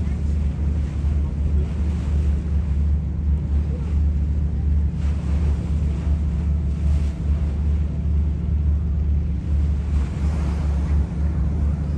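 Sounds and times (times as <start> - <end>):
boat engine humming: 0.0 - 11.9.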